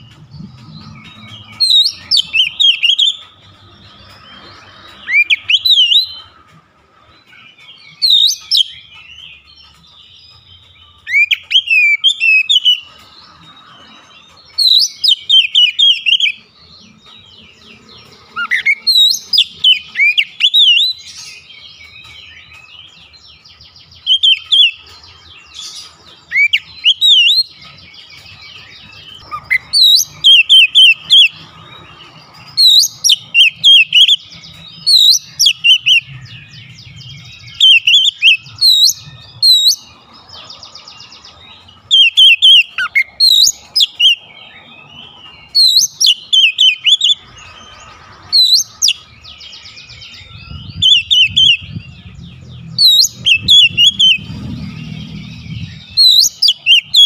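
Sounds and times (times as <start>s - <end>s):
bird singing whistled notes: 0.0s - 6.4s, 7.0s - 57.0s.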